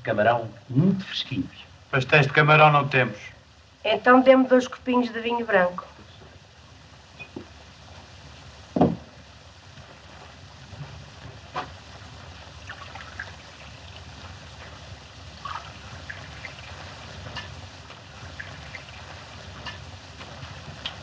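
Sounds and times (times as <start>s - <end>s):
film soundtrack hiss and hum: 0.0s - 21.0s.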